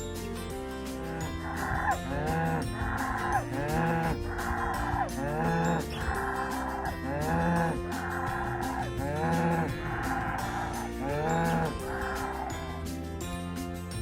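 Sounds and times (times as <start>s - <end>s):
background music: 0.0s - 14.0s
cow mooing: 0.9s - 12.9s.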